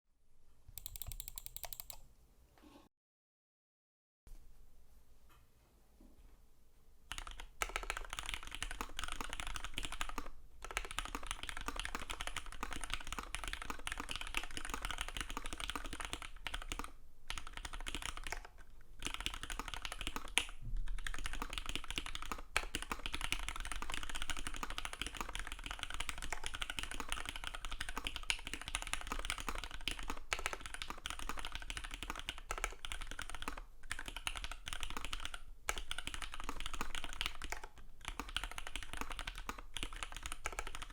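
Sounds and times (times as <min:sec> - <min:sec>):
mechanical keyboard typing: 0:00.8 - 0:02.0, 0:07.1 - 0:40.9.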